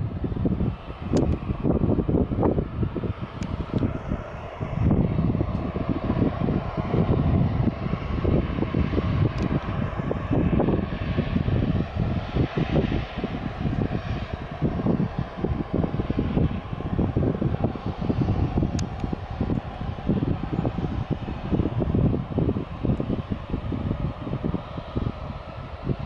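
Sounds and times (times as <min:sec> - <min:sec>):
jet engines rushing: 0:00.0 - 0:26.0
wind buffeting microphone: 0:00.0 - 0:26.0.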